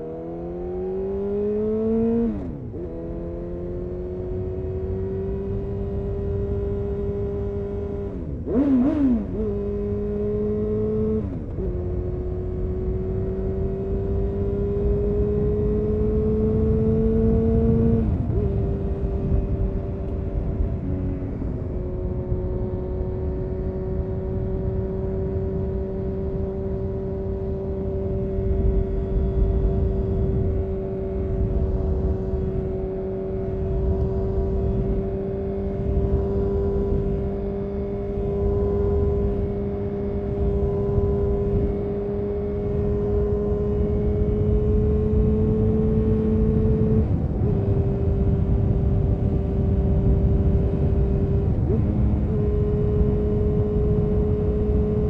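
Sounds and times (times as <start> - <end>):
motorcycle engine at steady revs: 0.0 - 55.0.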